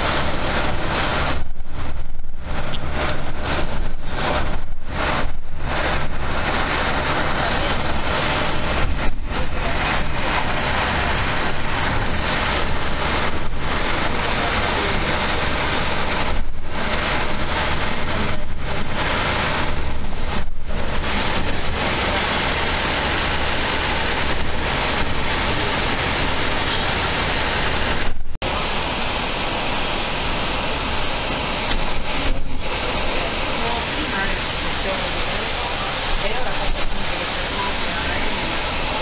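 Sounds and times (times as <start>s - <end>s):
train wheels on track: 0.0s - 39.0s.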